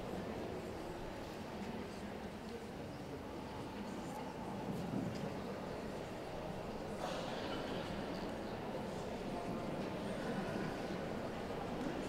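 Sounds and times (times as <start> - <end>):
faint indistinct voices: 0.0 - 12.0
indoor hall background noise: 0.0 - 12.0.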